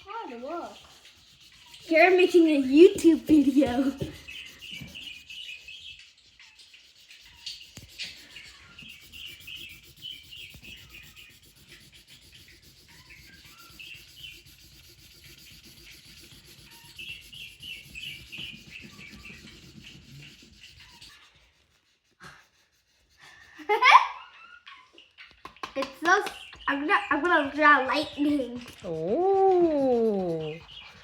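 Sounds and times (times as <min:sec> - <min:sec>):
drawing tool scribbling on paper: 0:00.0 - 0:23.9, 0:26.3 - 0:31.0.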